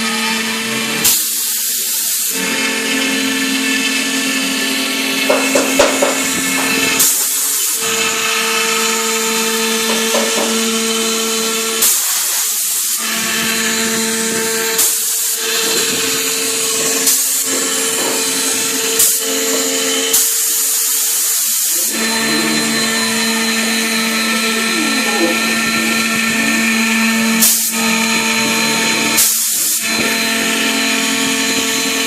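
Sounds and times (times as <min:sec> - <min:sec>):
router spindle whine: 0:00.0 - 0:32.0
hissing cutting noise: 0:01.9 - 0:10.6, 0:11.8 - 0:30.6.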